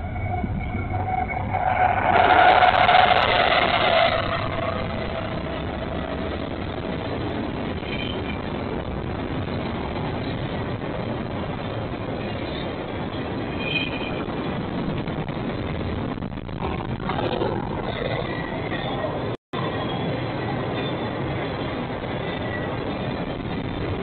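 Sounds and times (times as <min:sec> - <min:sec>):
train cars rumbling on rails: 0:00.0 - 0:24.0.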